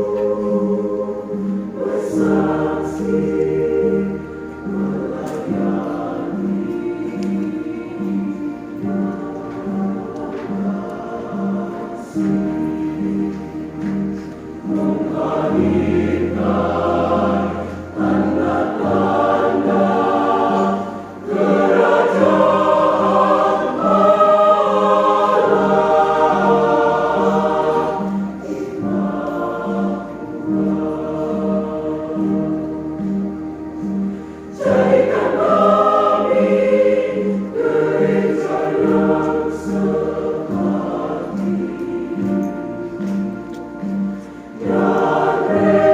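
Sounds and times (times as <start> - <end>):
church choir singing: 0.0 - 45.9.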